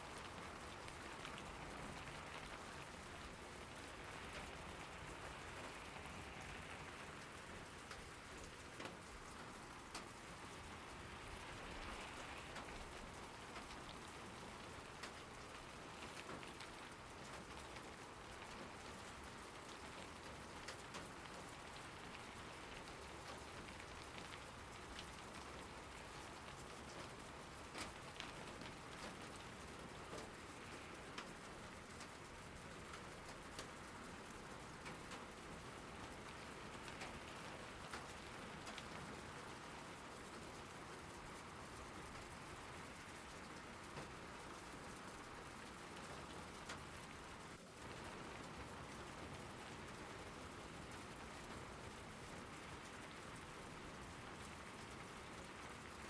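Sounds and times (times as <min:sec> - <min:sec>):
raindrop ticks: 0:00.0 - 0:56.0
steady rain falling: 0:00.0 - 0:56.0.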